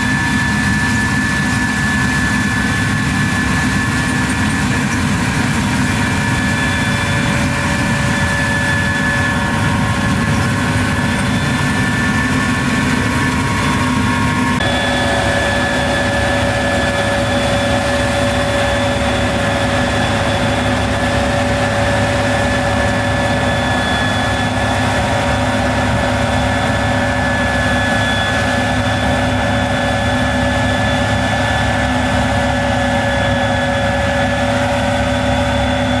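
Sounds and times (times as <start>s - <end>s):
diesel engine drone: 0.0s - 36.0s
machinery whine: 0.0s - 36.0s.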